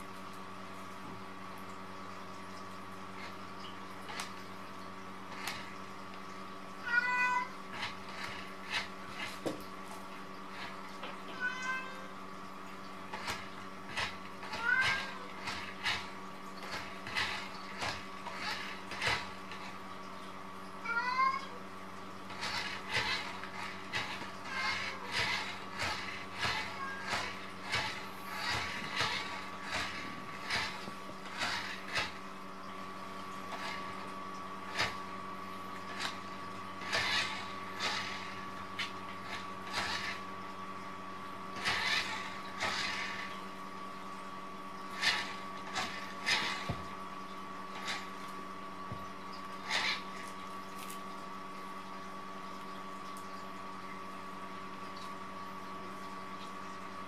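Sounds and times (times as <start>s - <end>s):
steady electrical hum: 0.0s - 57.0s.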